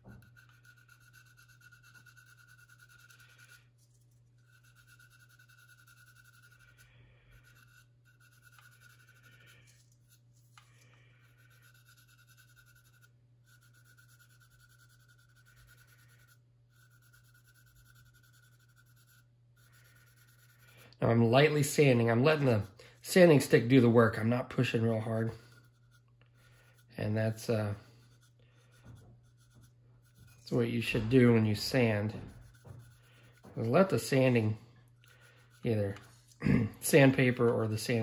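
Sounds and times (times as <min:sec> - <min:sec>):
sanding stick scratching plastic: 0:00.0 - 0:38.0.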